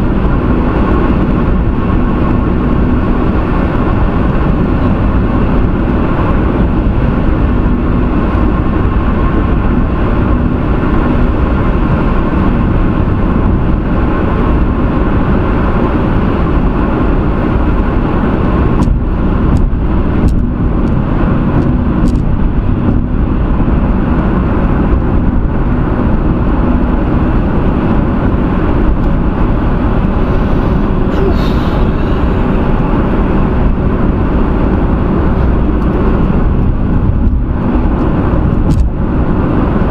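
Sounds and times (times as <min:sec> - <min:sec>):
engine hum: 0:00.0 - 0:39.9
road and tyre noise: 0:00.0 - 0:39.9.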